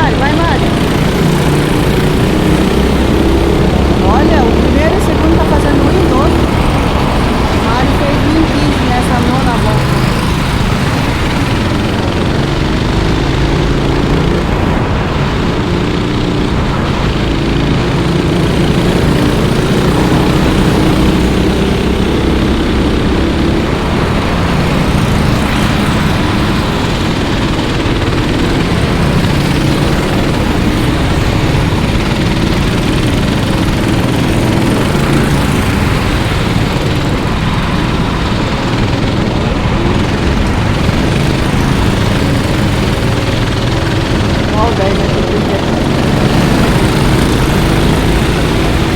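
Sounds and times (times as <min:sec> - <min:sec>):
racing kart engines: 0:00.0 - 0:48.9.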